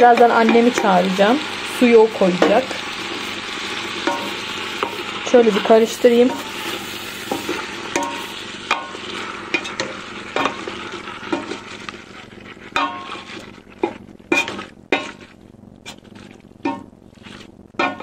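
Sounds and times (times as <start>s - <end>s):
food sizzling: 0.0s - 18.0s
wooden ladle scraping pot: 2.3s - 18.0s.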